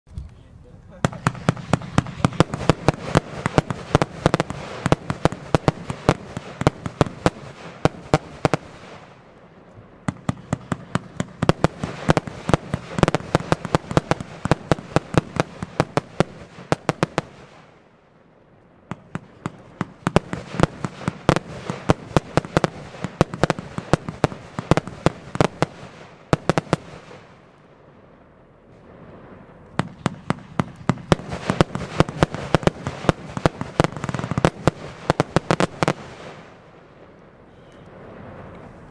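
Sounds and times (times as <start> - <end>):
fireworks popping and banging: 0.1 - 9.1, 10.0 - 17.7, 18.9 - 27.3, 28.8 - 36.4.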